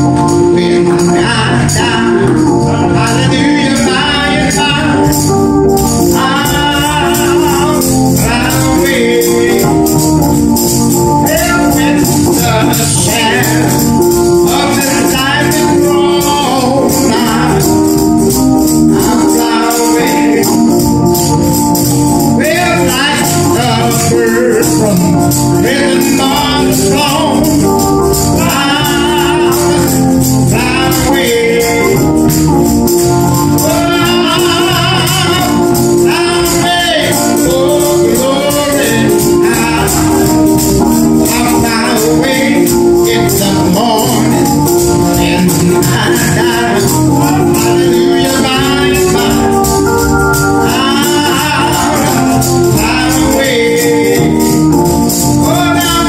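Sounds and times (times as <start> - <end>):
church organ chords: 0.0 - 56.0
man singing gospel: 0.0 - 56.0
percussion beat: 0.0 - 56.0.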